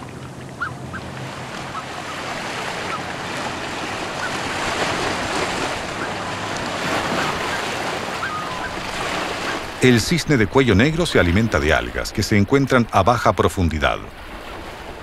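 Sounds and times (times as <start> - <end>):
water lapping: 0.0 - 15.0
wind: 0.0 - 15.0.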